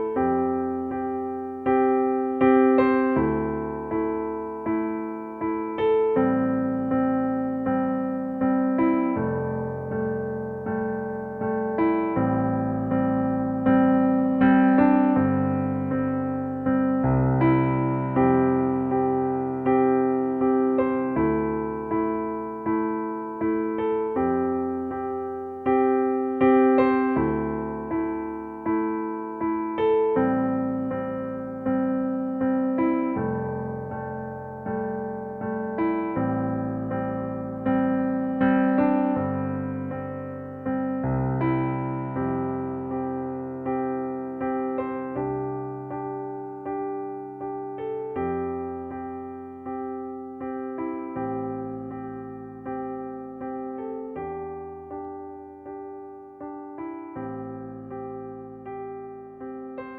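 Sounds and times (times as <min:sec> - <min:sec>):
soft electric piano chords: 0:00.0 - 0:59.9.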